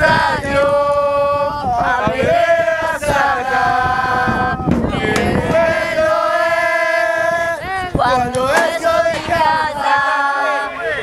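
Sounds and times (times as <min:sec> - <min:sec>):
person singing chant-like song: 0:00.0 - 0:10.8.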